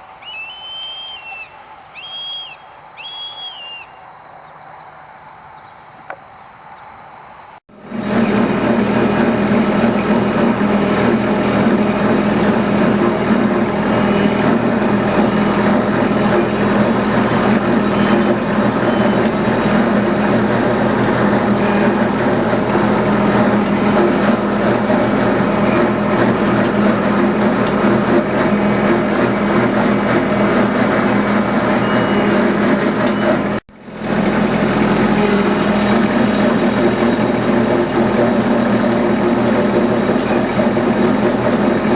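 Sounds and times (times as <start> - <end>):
small engine running: 7.7 - 41.9.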